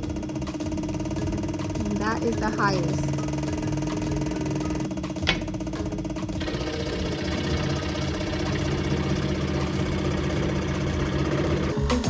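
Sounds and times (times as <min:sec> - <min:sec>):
scroll saw humming: 0:00.0 - 0:12.0.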